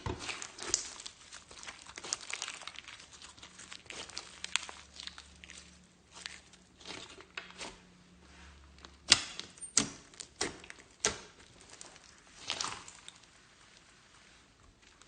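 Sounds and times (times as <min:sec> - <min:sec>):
hands squishing slime: 0:00.0 - 0:15.0.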